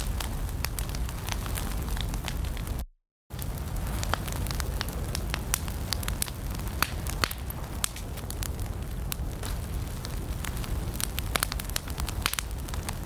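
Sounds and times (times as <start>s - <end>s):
fire burning in a fireplace: 0.0s - 13.0s
logs crackling and popping: 0.0s - 13.0s.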